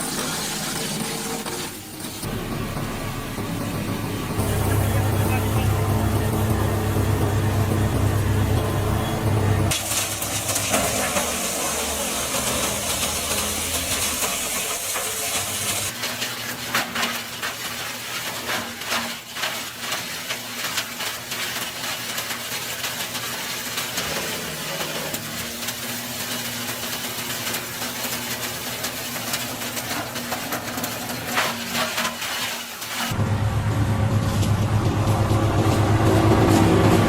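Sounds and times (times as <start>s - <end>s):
faint chipper engine: 0.0s - 37.0s
wood chipper shredding branches: 0.0s - 37.0s.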